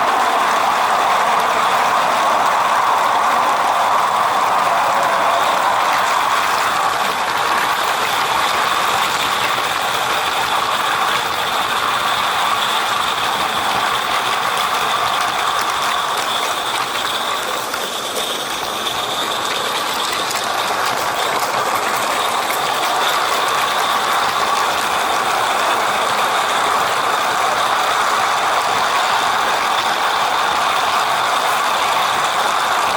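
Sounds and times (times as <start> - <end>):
model train rattling and clicking: 0.0 - 32.9.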